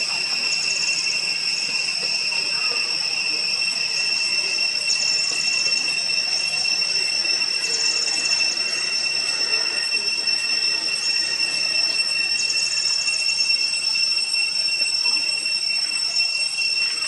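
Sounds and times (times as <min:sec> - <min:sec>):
high-pitched insect droning: 0:00.0 - 0:17.0.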